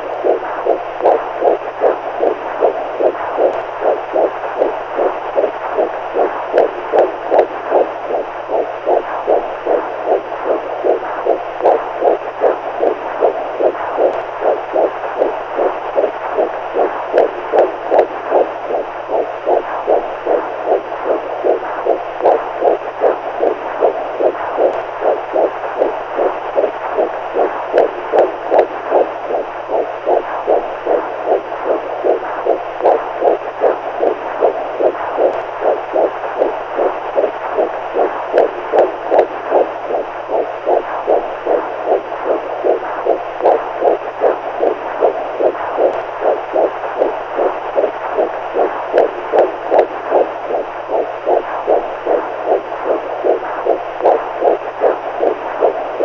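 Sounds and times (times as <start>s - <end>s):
low hum: 0.0s - 56.0s
recorded heartbeat: 0.0s - 56.0s.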